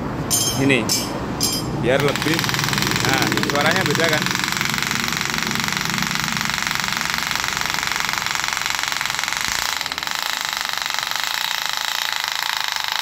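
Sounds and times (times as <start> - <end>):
hammer drill boring into masonry: 2.0 - 13.0.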